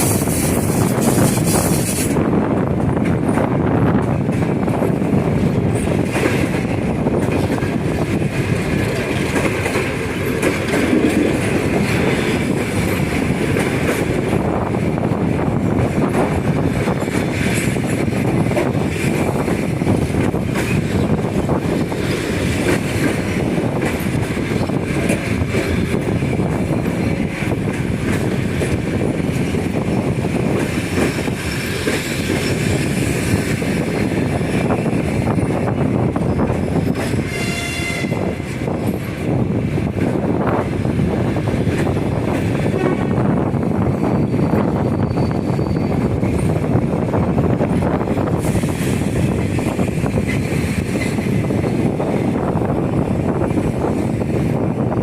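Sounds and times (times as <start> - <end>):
train rumbling past on rails: 0.0 - 55.0.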